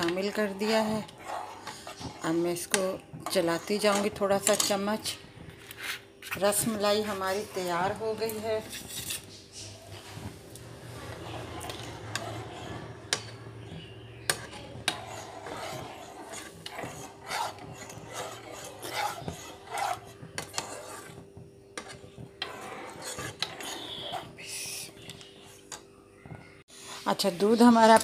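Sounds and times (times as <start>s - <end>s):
metal spoon scraping saucepan: 0.0s - 25.8s.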